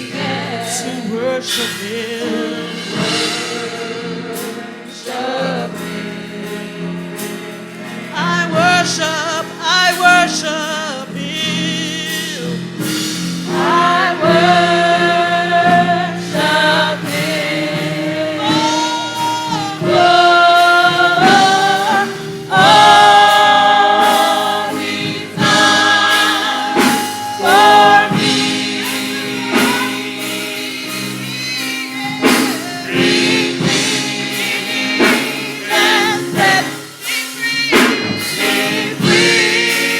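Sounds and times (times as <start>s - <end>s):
gospel choir singing: 0.0s - 39.9s
sustained keyboard chords: 0.0s - 39.9s.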